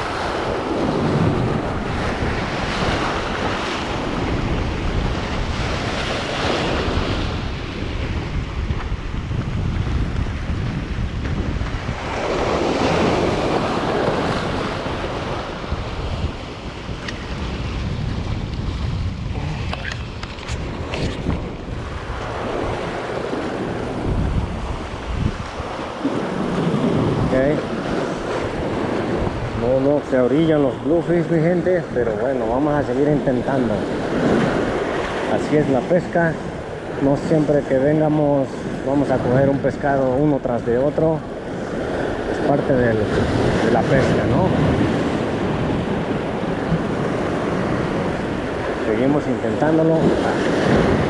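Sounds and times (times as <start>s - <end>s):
surf breaking over rocks: 0.0s - 51.0s
wind buffeting microphone: 0.0s - 51.0s.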